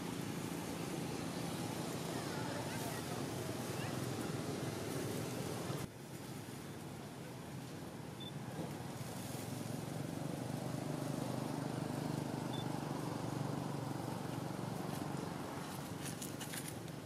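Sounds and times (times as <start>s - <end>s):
engine running: 0.0s - 5.9s, 8.4s - 17.0s.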